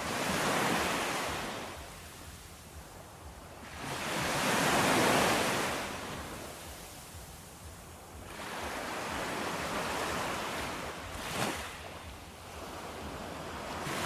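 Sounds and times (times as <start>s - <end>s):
ocean waves washing in: 0.0s - 14.0s.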